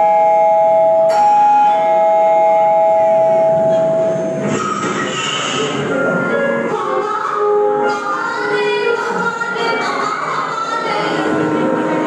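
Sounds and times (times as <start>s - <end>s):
backing music: 1.1s - 12.0s.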